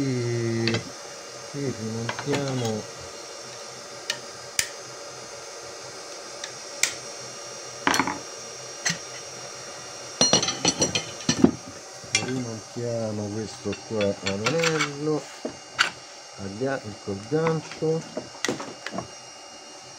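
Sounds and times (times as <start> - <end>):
wood lathe humming: 0.0 - 19.9.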